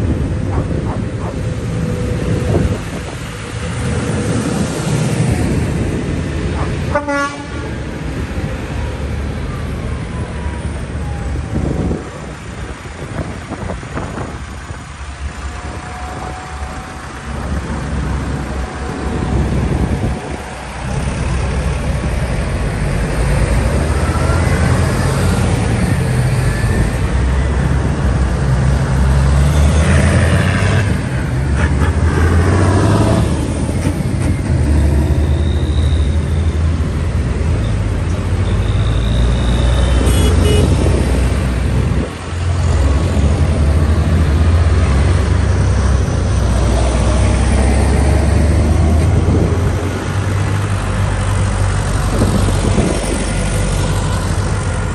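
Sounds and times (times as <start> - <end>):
tractor engines driving past: 0.0 - 54.9.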